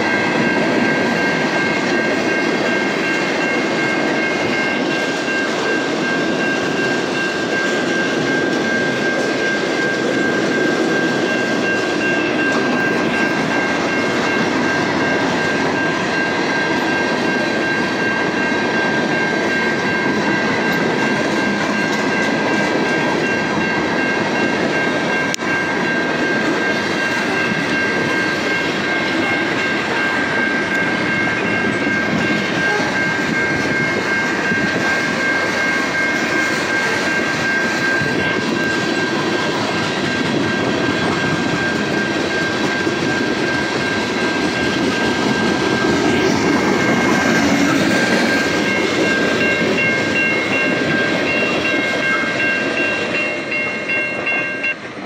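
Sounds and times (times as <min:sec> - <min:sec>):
high ringing tone: 0:00.0 - 0:55.0
train wheels rumbling on rails: 0:00.0 - 0:55.0.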